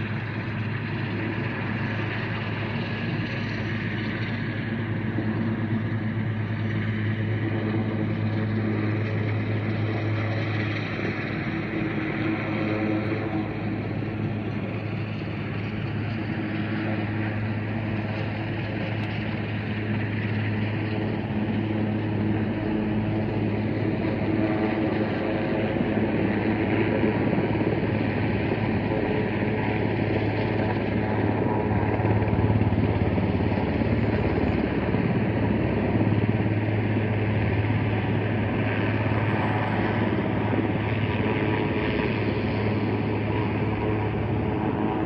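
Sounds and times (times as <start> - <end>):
helicopter hovering: 0.0 - 45.0.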